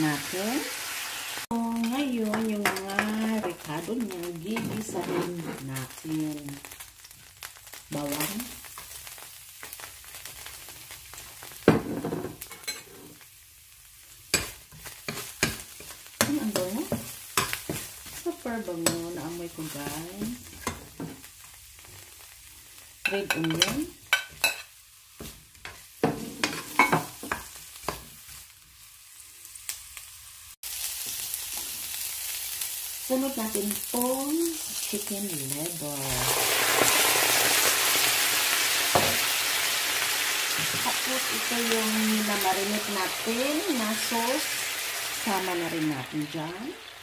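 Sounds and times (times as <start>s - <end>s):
garlic sizzling in hot oil: 0.0s - 47.0s.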